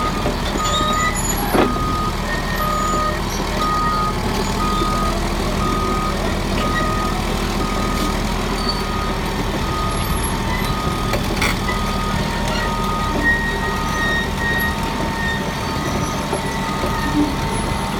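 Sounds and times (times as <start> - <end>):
bulldozer diesel engine running: 0.0 - 17.9
reversing alarm beeping: 0.0 - 17.9.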